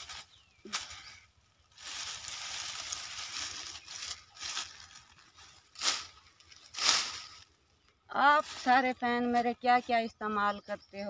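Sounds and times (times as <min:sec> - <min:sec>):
branches crunching: 0:00.0 - 0:09.8
dry leafy branches rustling: 0:00.0 - 0:11.0.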